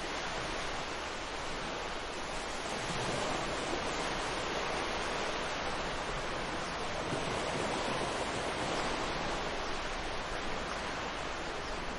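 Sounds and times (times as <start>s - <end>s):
ocean waves washing ashore: 0.0s - 11.9s.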